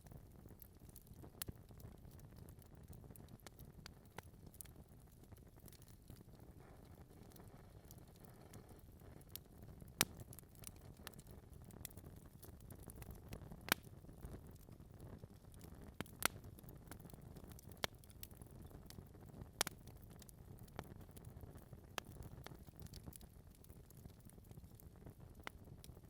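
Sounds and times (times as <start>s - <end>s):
burning logs popping and snapping: 0.0s - 26.0s
low rumble of flames: 0.0s - 26.0s.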